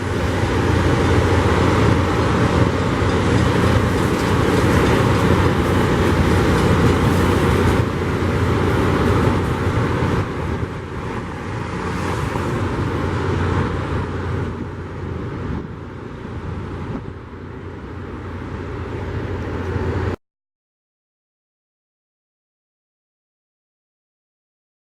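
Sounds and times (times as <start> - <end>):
low engine hum: 0.0 - 20.2
rail grinder grinding: 0.0 - 20.2.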